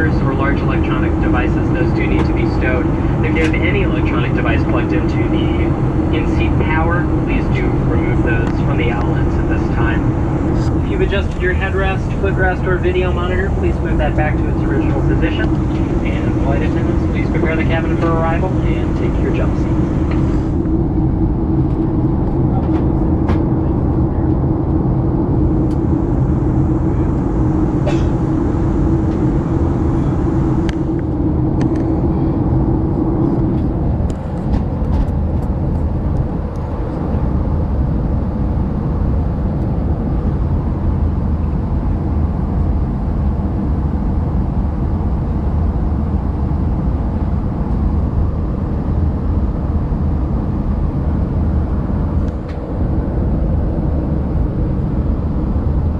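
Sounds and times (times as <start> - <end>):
airflow and turbofan noise: 0.0 - 55.9
steady hum: 0.0 - 55.9.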